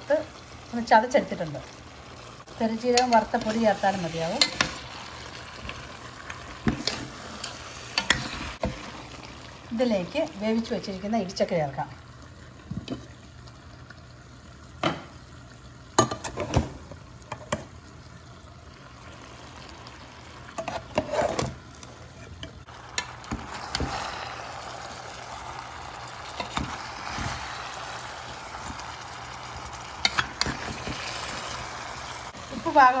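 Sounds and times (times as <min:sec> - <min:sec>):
food sizzling in pan: 0:00.0 - 0:33.0.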